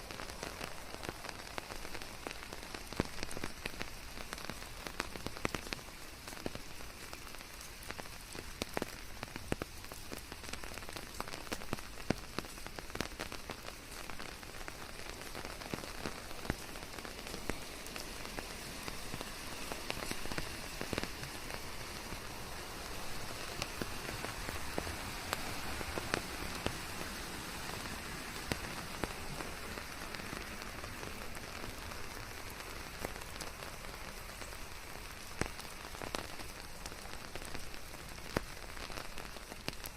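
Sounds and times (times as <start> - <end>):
raindrops pattering on leaves: 0.0 - 39.9.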